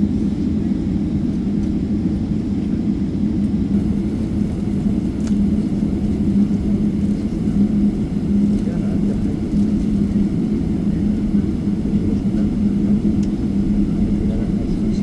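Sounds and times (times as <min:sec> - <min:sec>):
jet airliner taxiing rumble: 0:00.0 - 0:15.0.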